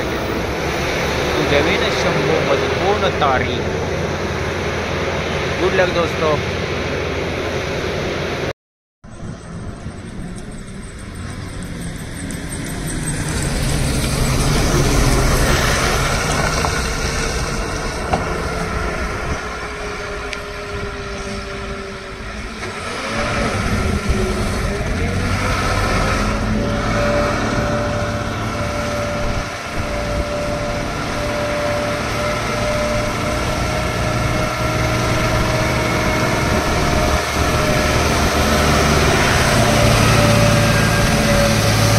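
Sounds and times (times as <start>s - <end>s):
other traffic: 0.0s - 41.9s
thin whine: 0.0s - 41.9s
truck diesel engine drone: 0.0s - 41.9s.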